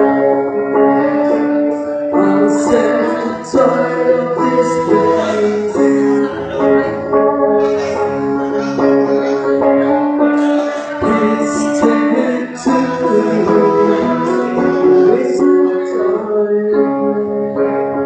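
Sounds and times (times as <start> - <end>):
person singing: 0.0 - 18.0
strummed acoustic guitar: 0.0 - 18.0.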